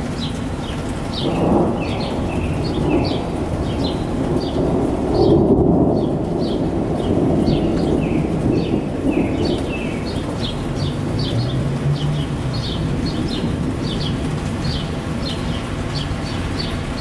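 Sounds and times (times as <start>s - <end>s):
thunderstorm rumble: 1.0s - 17.0s.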